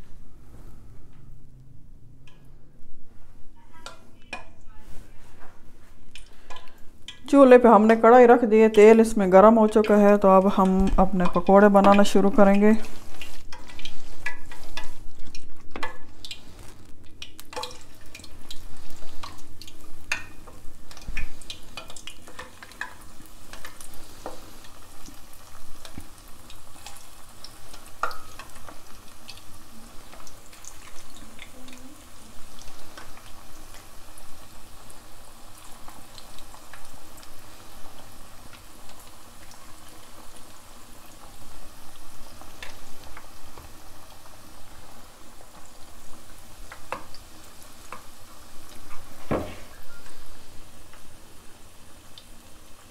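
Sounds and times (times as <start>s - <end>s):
batter frying in hot oil: 3.2s - 52.9s.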